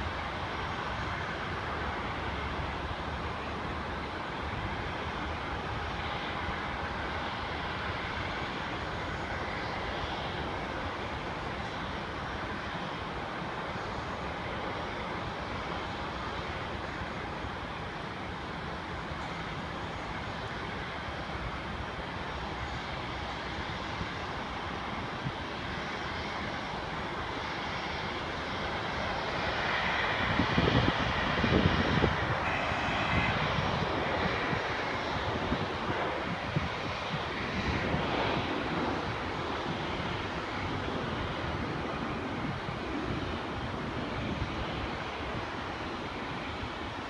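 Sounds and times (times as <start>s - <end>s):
jet airliner engine whine: 0.0s - 47.0s.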